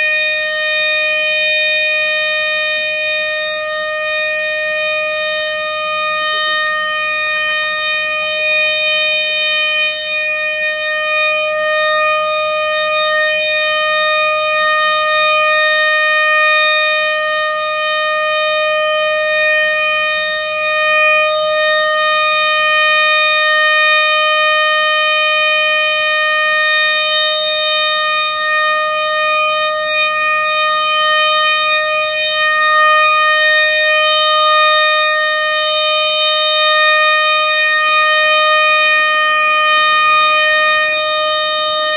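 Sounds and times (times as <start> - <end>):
siren steady tone: 0.0 - 41.9.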